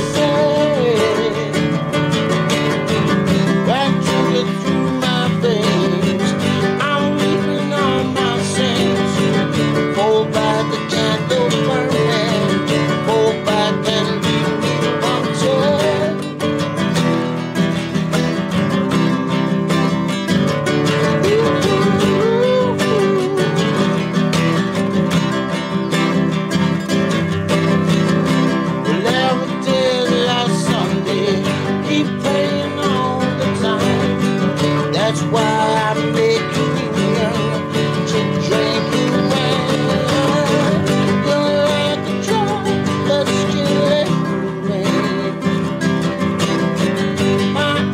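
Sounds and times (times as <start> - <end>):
man singing: 0.0 - 16.8, 18.2 - 26.9, 27.7 - 47.9
classical guitar strummed and picked: 0.0 - 47.9.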